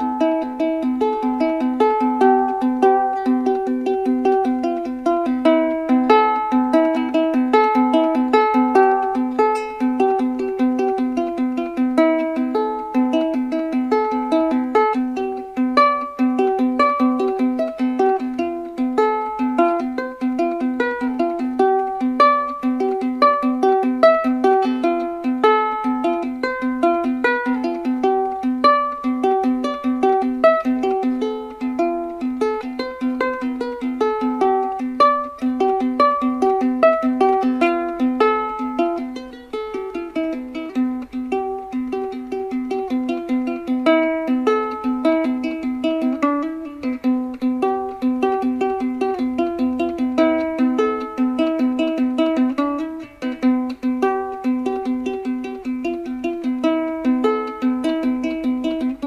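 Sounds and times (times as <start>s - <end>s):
plucked string music: 0.0s - 59.0s.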